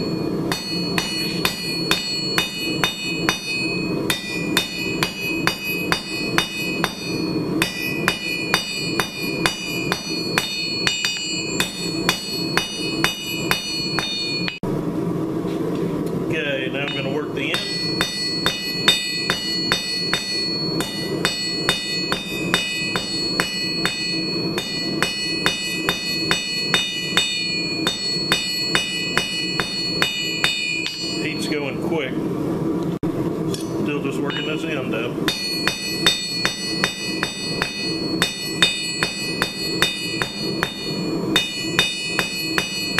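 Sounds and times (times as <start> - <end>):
anvil ringing: 0.0 - 14.6, 16.8 - 31.7, 33.6 - 42.9
hammer striking steel on anvil: 0.0 - 14.6, 16.8 - 31.6, 33.5 - 42.9.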